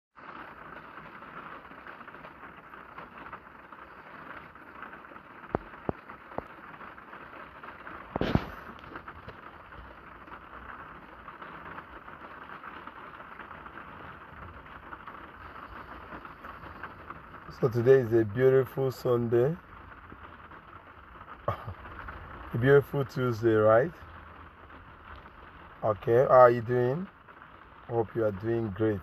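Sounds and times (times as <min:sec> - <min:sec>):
rain on a car roof: 0:00.1 - 0:29.0.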